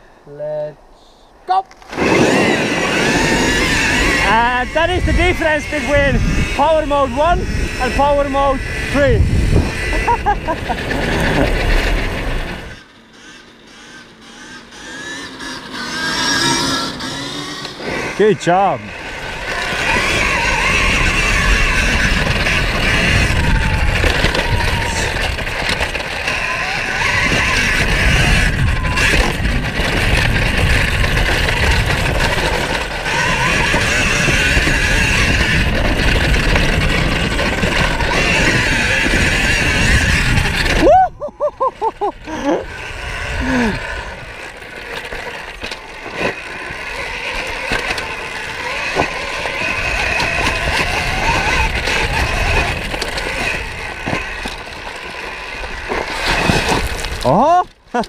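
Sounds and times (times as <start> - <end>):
electric motor whine: 1.7 - 41.0, 41.6 - 57.3
wind and tyre rumble on gravel: 1.8 - 12.9, 15.0 - 41.2, 42.0 - 57.9.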